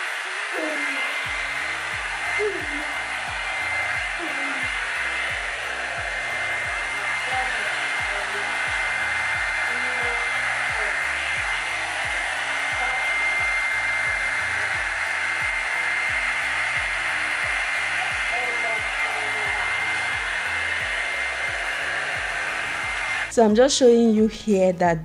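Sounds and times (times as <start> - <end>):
hair dryer blowing: 0.0 - 24.0
faint background music with beat: 0.6 - 25.0.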